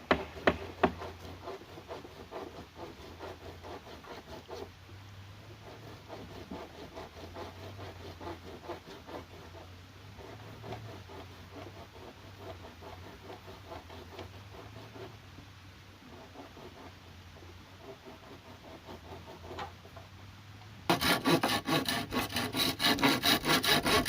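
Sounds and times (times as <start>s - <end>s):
hand tool scraping wood: 0.0s - 4.7s, 5.5s - 15.2s, 16.1s - 20.0s, 20.9s - 24.0s.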